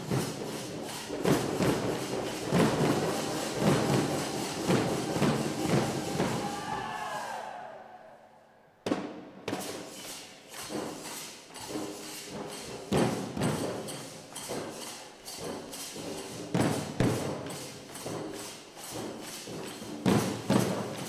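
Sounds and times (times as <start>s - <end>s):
barrel drums pounding: 0.0s - 7.0s, 10.6s - 21.0s.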